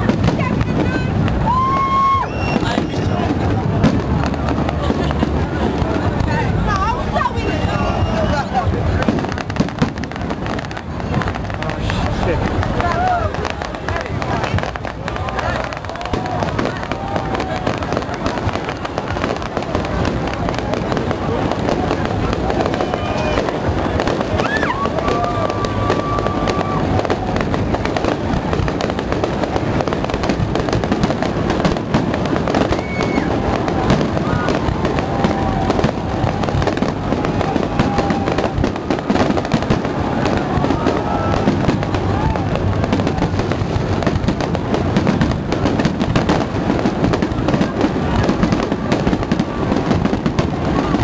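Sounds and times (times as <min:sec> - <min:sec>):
firework whistling: 0:00.0 - 0:51.0
fireworks crackling and popping: 0:00.0 - 0:51.0
low rumble: 0:00.0 - 0:51.0.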